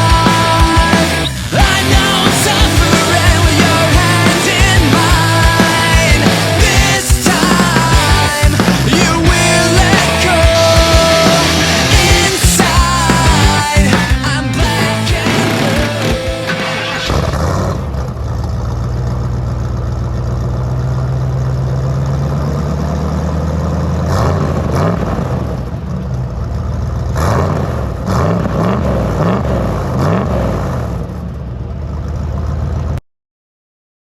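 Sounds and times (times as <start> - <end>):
engine idling and revving: 0.0 - 33.0.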